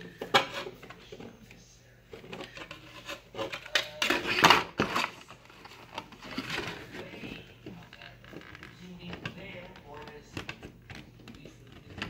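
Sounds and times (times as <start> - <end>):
scraping on hard plastic: 0.0 - 1.3, 2.1 - 12.0.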